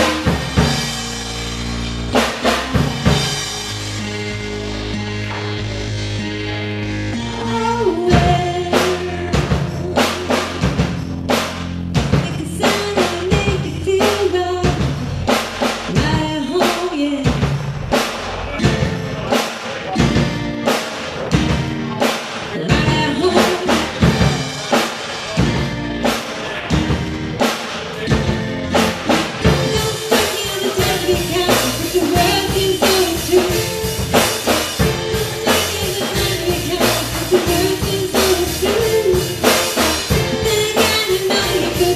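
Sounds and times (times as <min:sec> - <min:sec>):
band playing music: 0:00.0 - 0:41.9.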